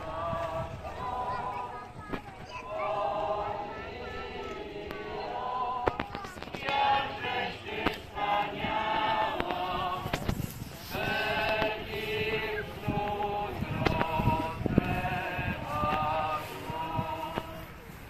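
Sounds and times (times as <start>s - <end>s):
congregation singing a hymn: 0.0s - 2.0s, 2.6s - 17.9s.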